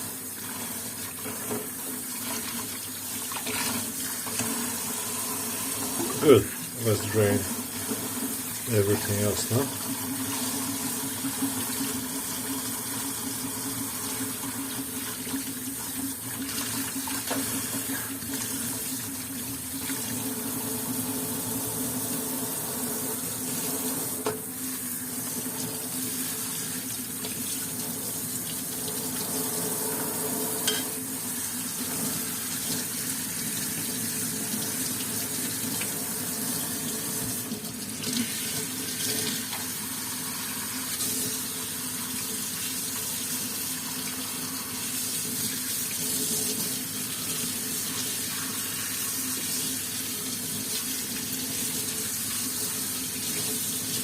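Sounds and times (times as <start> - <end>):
tap water running into sink: 0.0 - 54.0.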